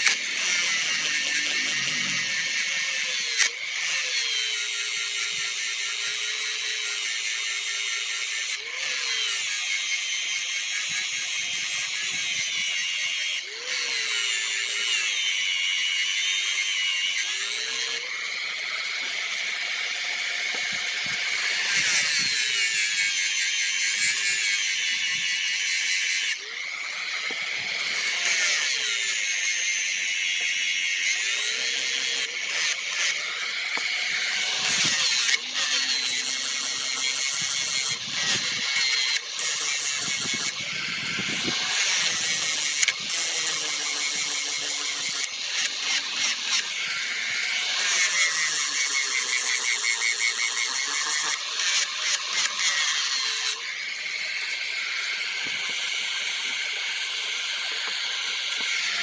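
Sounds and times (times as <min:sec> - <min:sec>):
electric power tool motor running: 0:00.0 - 0:59.0.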